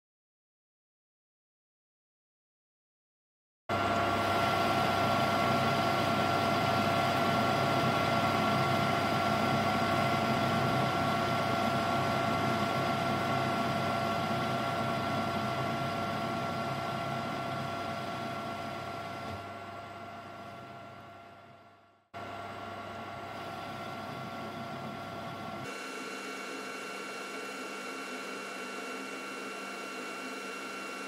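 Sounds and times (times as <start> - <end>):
metal lathe motor whine: 3.7 - 21.5, 22.2 - 31.0.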